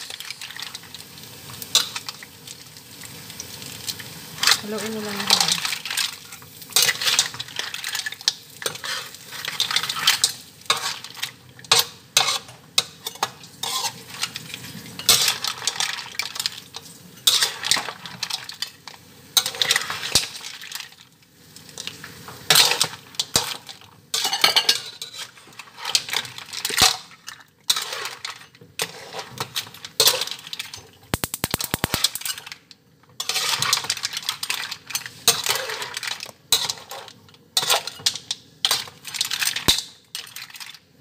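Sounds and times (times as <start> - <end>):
utensil scraping and clanking on pan: 0.0 - 0.8, 1.4 - 2.3, 4.4 - 21.0, 21.6 - 40.8
light sizzle: 0.0 - 41.0.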